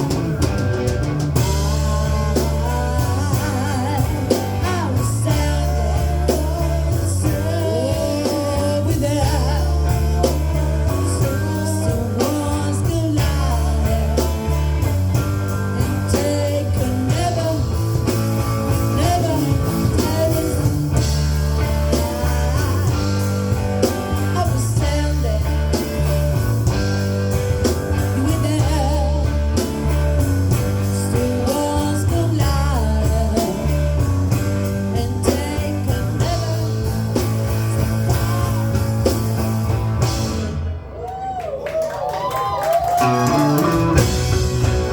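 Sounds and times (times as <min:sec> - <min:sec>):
drum kit: 0:00.0 - 0:41.5, 0:42.1 - 0:44.9
bass guitar: 0:00.0 - 0:44.9
electric guitar: 0:00.0 - 0:44.9
person singing: 0:01.4 - 0:39.3.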